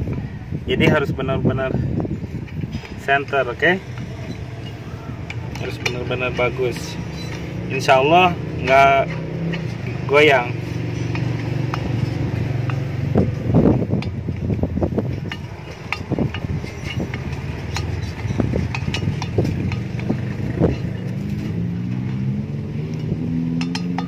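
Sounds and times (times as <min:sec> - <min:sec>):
metal tool clicks and scrapes: 0:02.4 - 0:24.0.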